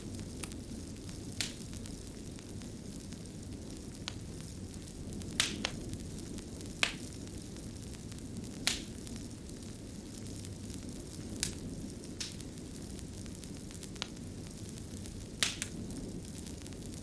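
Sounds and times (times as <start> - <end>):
fire burning: 0.0 - 17.0
fire crackles and pops: 0.0 - 17.0.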